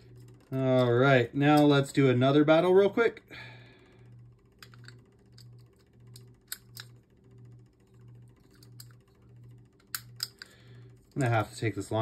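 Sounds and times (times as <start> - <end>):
spinning top humming: 0.0 - 12.0.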